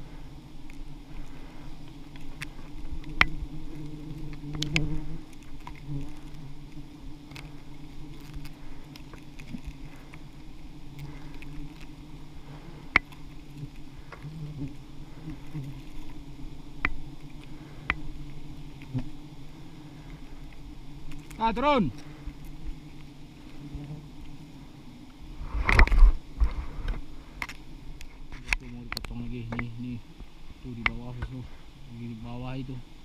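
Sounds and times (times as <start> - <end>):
bees buzzing in a swarm: 0.0 - 33.0.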